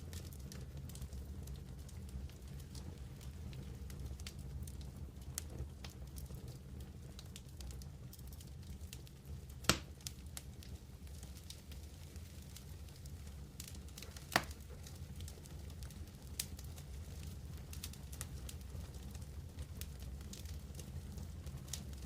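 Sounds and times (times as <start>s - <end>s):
campfire flames rumbling: 0.0s - 22.0s
fire crackling and popping: 0.0s - 22.0s.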